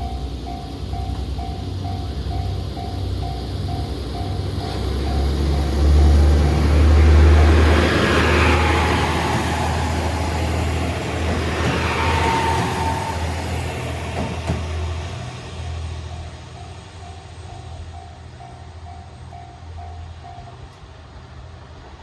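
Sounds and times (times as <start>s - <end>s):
diesel railcar engine drone: 0.0s - 22.0s.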